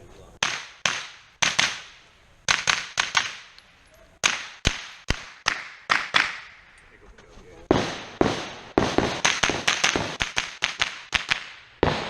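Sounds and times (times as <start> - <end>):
rifle gunshots: 0.4 - 3.6, 4.2 - 6.6, 7.7 - 12.0.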